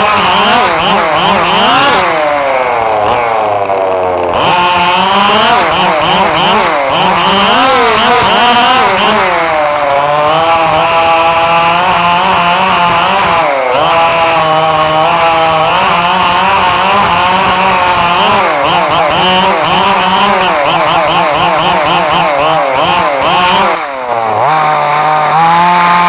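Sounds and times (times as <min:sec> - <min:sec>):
rc car motors buzzing and revving: 0:00.0 - 0:26.0.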